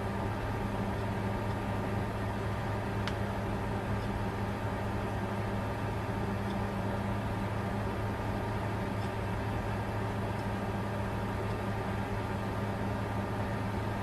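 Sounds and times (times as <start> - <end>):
computer fans humming: 0.0 - 14.0.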